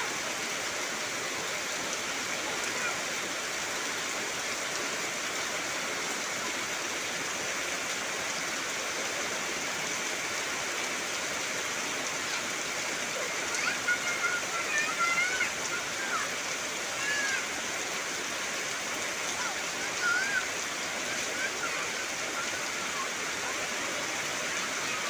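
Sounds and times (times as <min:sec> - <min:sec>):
heavy rain on foliage: 0:00.0 - 0:25.0.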